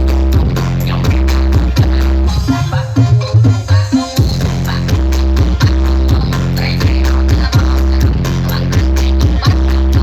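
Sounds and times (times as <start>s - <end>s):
bass-heavy electronic dance music: 0.0s - 10.0s.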